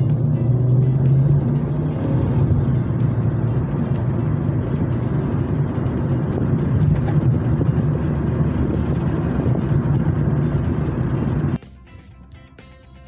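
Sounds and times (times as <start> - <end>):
car road and engine rumble: 0.0 - 11.6.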